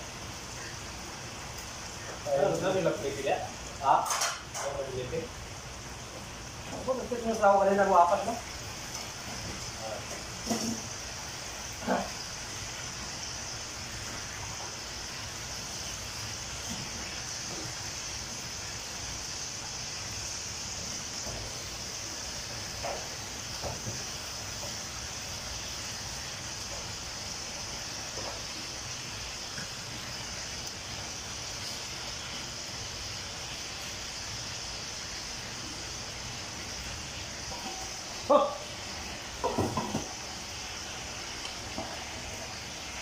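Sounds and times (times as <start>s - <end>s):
food sizzling in pans: 0.0s - 43.0s.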